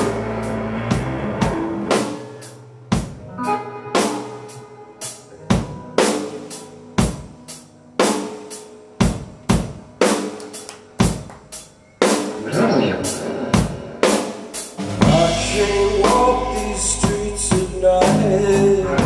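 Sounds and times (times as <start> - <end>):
drum kit steady beat: 0.0 - 3.2, 4.0 - 19.0
live rock band playing: 0.0 - 19.0.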